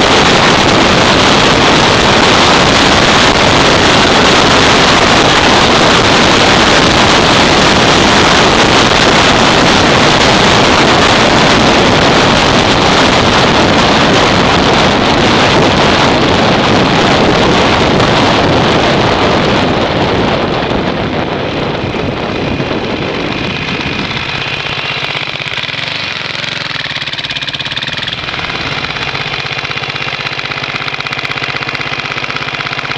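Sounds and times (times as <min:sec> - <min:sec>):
motorcycle engine idling: 0:00.0 - 0:32.9
wind rushing over microphone: 0:00.0 - 0:32.9.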